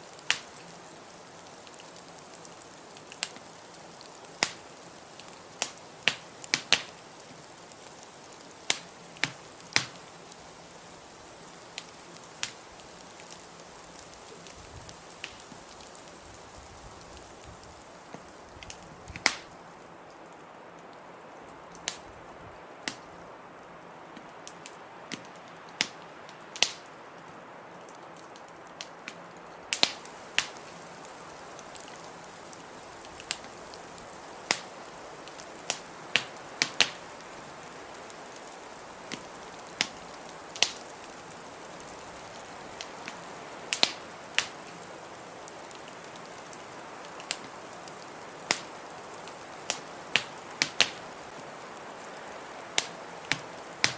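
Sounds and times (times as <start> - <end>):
rushing hiss: 0.0 - 19.5, 29.8 - 53.9
wood fire crackling: 0.0 - 53.9
sharp pops of fire: 0.1 - 19.5, 24.2 - 26.9, 28.8 - 51.4, 52.1 - 53.9.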